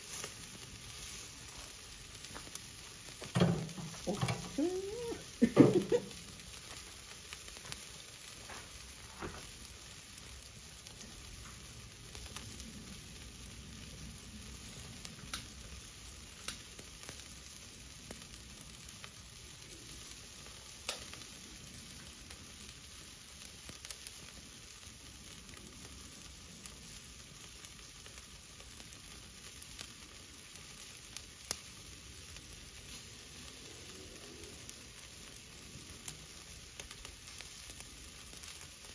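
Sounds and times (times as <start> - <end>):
chicken sizzling on a grill: 0.0 - 38.9.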